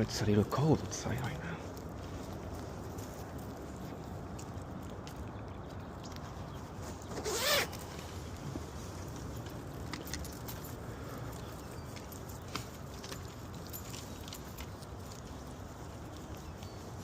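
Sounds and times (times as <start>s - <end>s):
handling noise: 0.0s - 17.0s.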